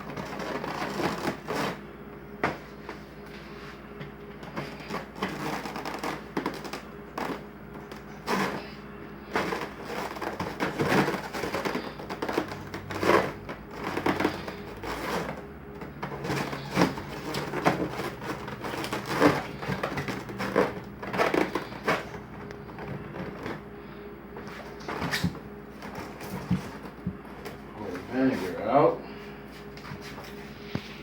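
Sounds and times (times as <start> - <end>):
crunching and scraping handling noises: 0.0 - 31.0.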